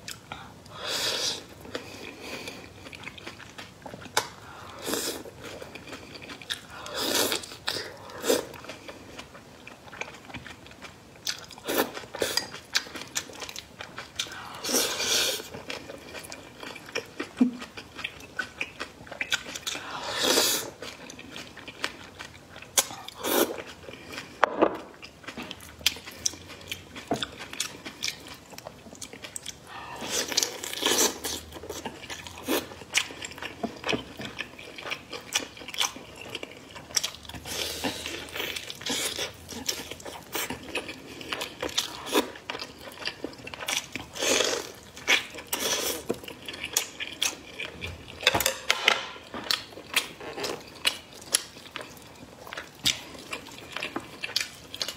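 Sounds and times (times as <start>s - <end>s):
chewing noodles and meat: 0.8s - 54.9s.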